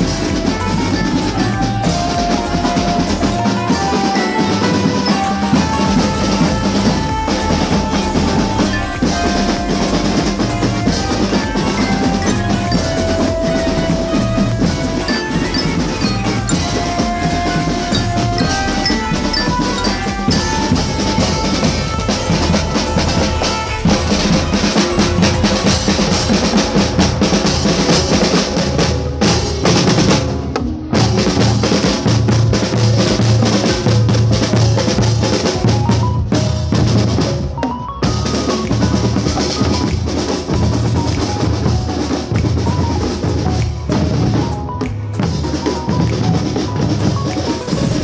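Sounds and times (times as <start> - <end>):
bell-like melody: 0.0 - 48.0
drums: 0.0 - 48.0
steady bass drum beat: 0.0 - 48.0.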